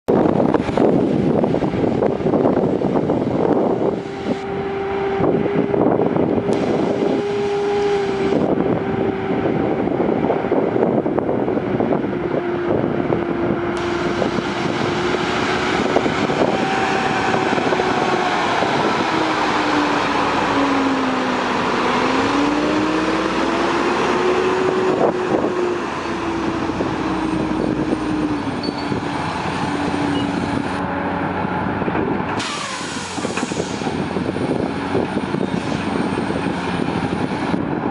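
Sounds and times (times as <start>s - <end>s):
excavator diesel engine droning: 0.1s - 37.9s.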